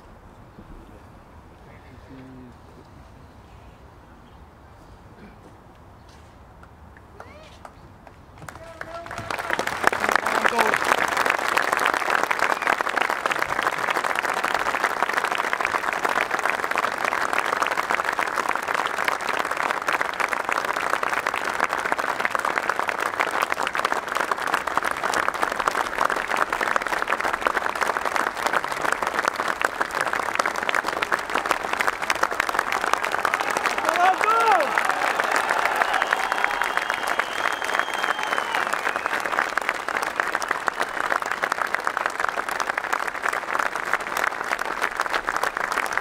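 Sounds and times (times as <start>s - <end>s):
large crowd applauding: 8.0s - 46.0s.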